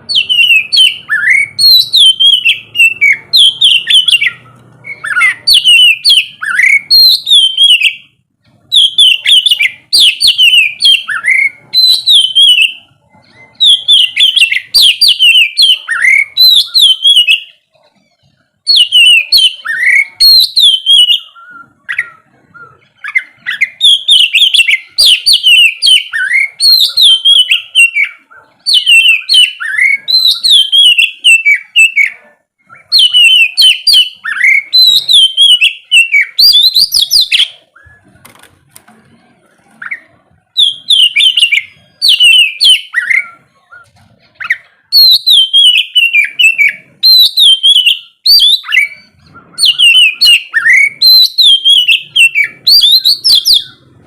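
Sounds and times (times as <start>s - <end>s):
bird singing whistles and chirps: 0.0s - 38.4s, 39.7s - 54.0s.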